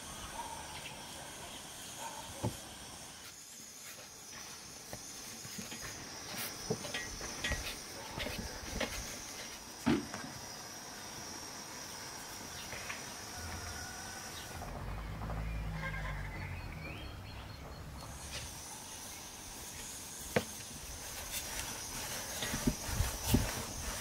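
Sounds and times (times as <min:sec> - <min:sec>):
insect chirring: 0:00.0 - 0:14.6, 0:17.9 - 0:24.0.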